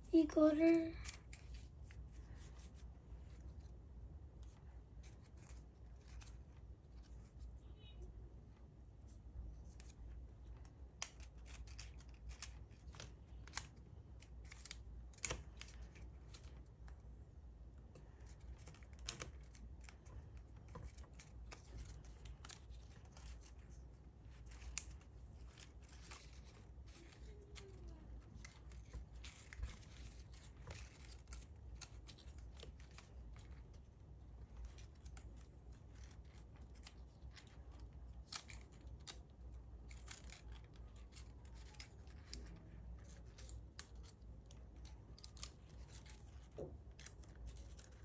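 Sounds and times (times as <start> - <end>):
paper being folded and creased: 0.2 - 7.6, 9.0 - 17.1, 17.9 - 48.0.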